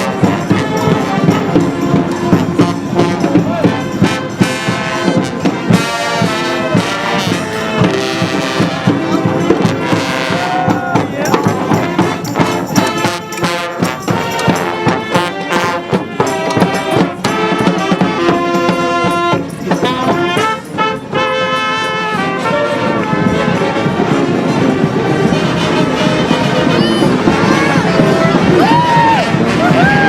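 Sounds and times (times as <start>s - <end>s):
brass band playing: 0.0s - 30.0s.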